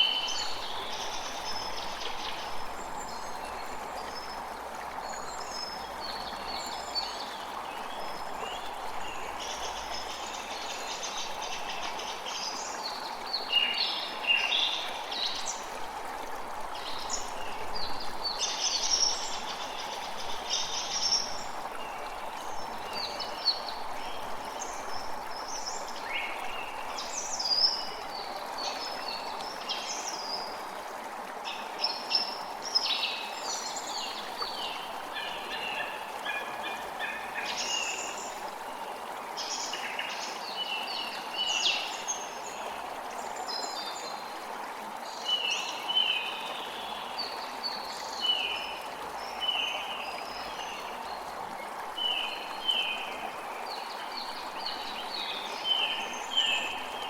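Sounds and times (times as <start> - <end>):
creek flowing: 0.0 - 57.0.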